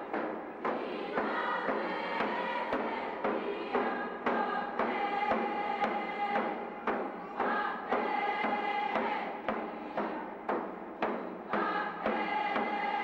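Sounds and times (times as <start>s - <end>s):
steady drumbeat: 0.0s - 13.0s.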